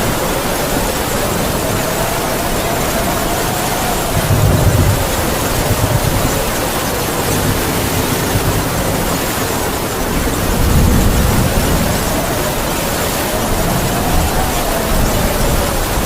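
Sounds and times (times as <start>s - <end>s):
heavy rain falling: 0.0s - 16.0s
wind howling: 0.0s - 16.0s.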